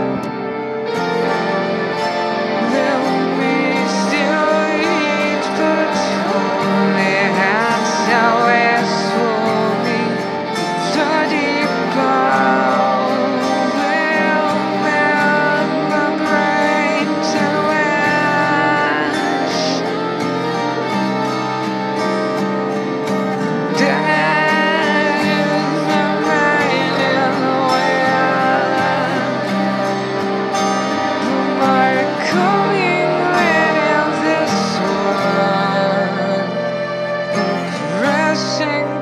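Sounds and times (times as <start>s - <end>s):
slow song with guitars: 0.0s - 39.0s.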